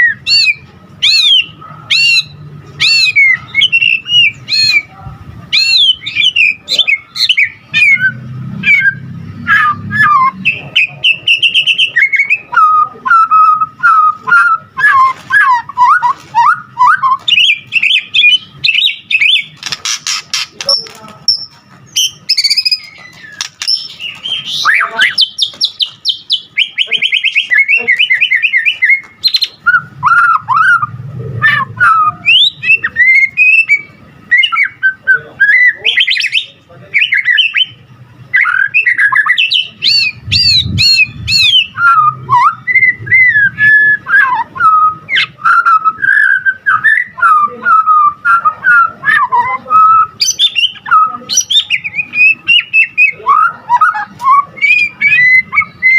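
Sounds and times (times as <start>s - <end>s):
bird singing varied song: 0.0s - 55.9s.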